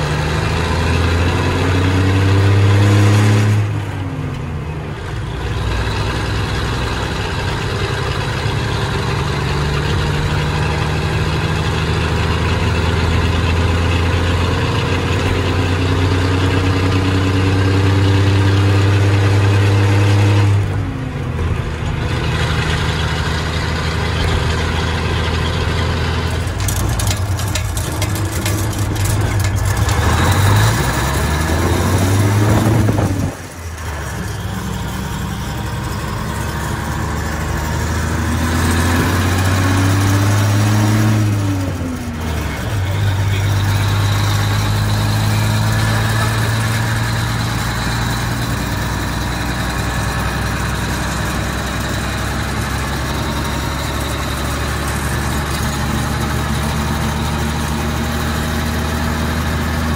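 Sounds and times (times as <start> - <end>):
diesel engine idling: 0.0 - 59.9
diesel truck engine revving: 0.0 - 59.9.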